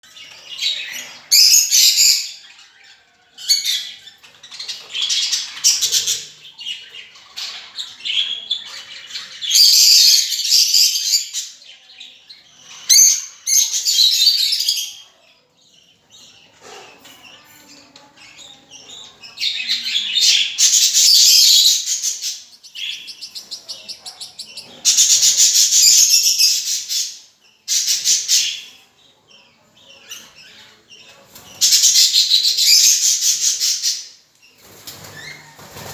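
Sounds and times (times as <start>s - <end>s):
lovebirds chirping: 0.0s - 35.9s.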